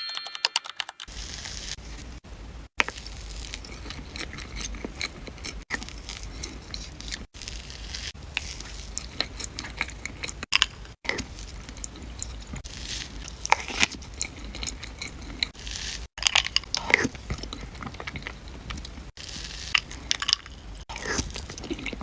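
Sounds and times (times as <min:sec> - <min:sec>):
chewing cake: 0:01.1 - 0:22.0
squishy mouth noises: 0:02.8 - 0:22.0.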